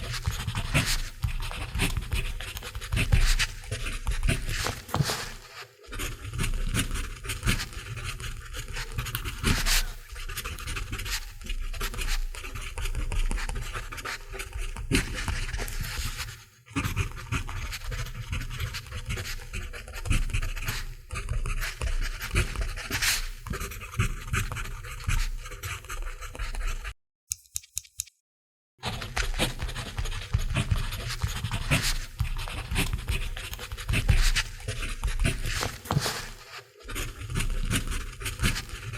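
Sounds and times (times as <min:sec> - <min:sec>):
pencil scratching on paper: 0:00.0 - 0:27.0, 0:28.8 - 0:38.9.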